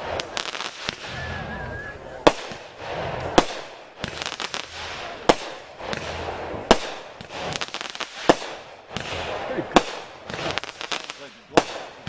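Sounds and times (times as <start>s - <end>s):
fireworks bangs: 0.0s - 12.0s
fireworks crackling: 0.0s - 12.0s
fireworks hiss: 0.0s - 12.0s.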